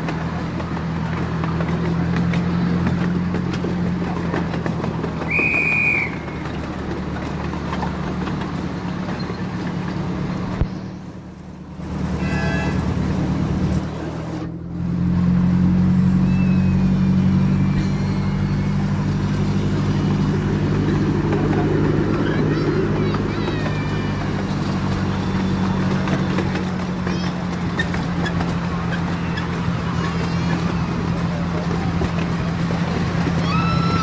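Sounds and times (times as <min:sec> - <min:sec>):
miniature train engine drone: 0:00.0 - 0:34.0
wheel and rail noise: 0:00.0 - 0:34.0.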